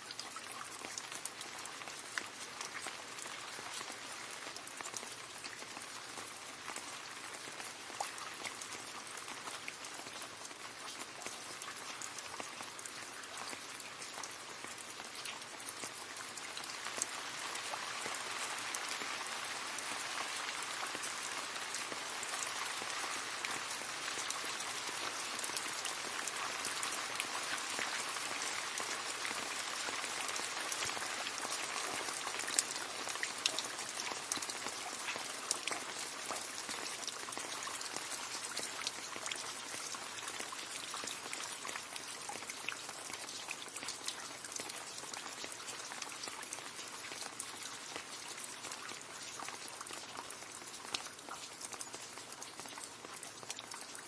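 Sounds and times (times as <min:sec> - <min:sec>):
rain falling into puddle: 0:00.0 - 0:54.0.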